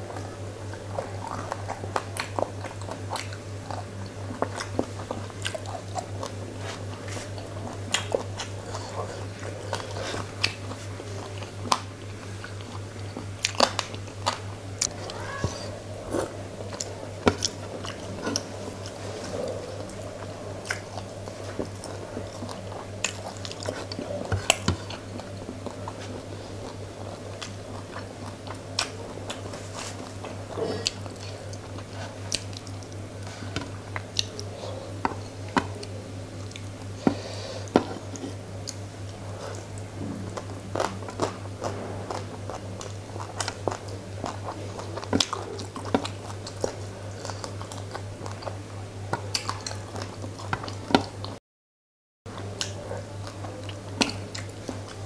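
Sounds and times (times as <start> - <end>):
chewing with wet smacks: 0.0 - 51.4, 52.3 - 55.0
steady low hum: 0.0 - 51.4, 52.3 - 55.0
fingers squishing food: 0.1 - 51.4.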